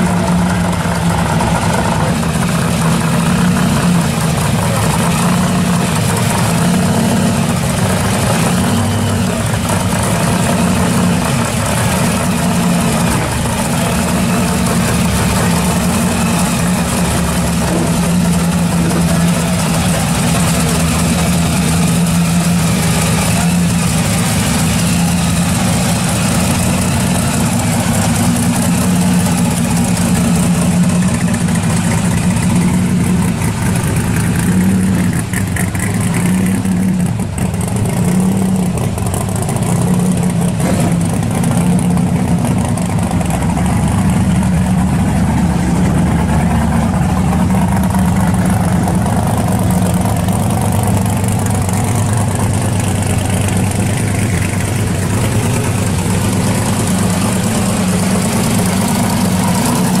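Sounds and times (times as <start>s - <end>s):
car engine idling with loping beat: 0.0s - 60.0s.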